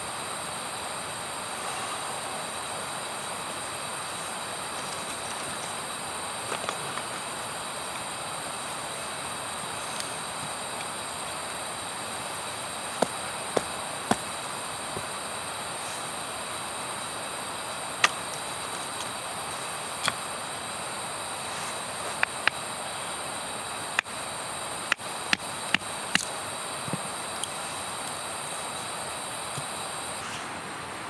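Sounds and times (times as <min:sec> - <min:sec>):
wood fire crackling and popping: 0:03.9 - 0:30.0.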